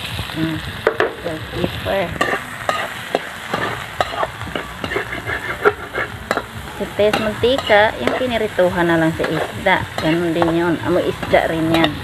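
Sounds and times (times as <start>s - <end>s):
vegetables sizzling in a wok: 0.0s - 12.0s
spatula clinking against wok: 2.2s - 12.0s.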